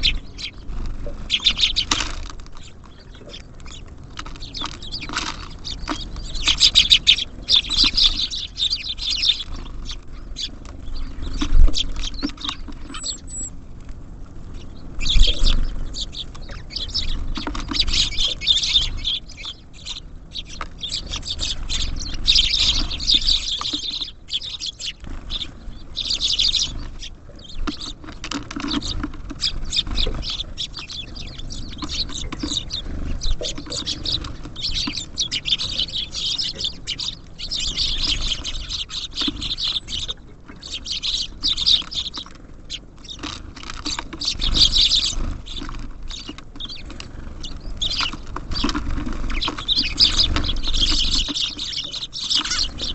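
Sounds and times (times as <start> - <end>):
birds pecking and tapping on feeder: 0.0 - 52.9
songbirds chirping: 0.0 - 52.9.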